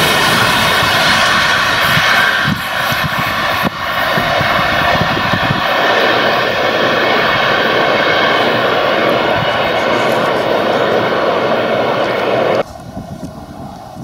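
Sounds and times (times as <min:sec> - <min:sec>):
freight train wheels on rails: 0:00.0 - 0:13.4.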